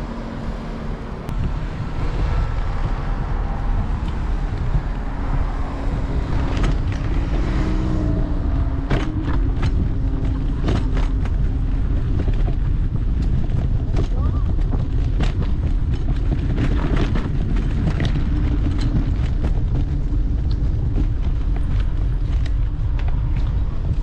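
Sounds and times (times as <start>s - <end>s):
tyres rumbling on concrete: 0.0s - 24.0s
wind on microphone: 0.0s - 24.0s
sharp clicks and knocks: 1.3s - 24.0s.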